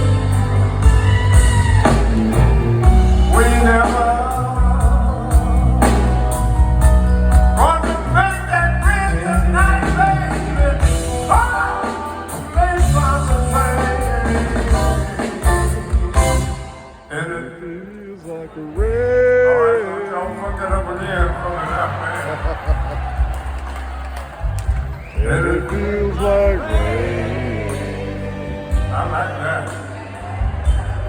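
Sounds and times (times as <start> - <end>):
bass line: 0.0 - 16.7, 20.6 - 31.0
live blues band: 0.0 - 31.0.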